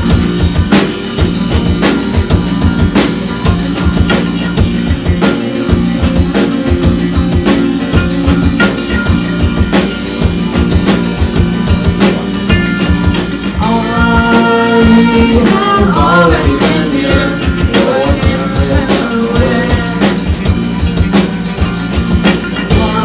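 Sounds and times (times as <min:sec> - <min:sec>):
drum kit beat: 0:00.0 - 0:23.0
electric bass: 0:00.0 - 0:23.0
electric guitar: 0:00.0 - 0:23.0.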